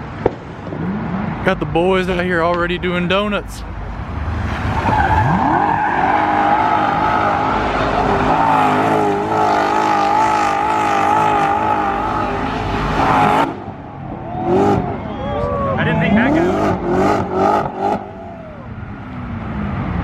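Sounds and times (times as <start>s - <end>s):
car engine revving: 0.0s - 20.0s
tires squealing: 3.3s - 19.9s.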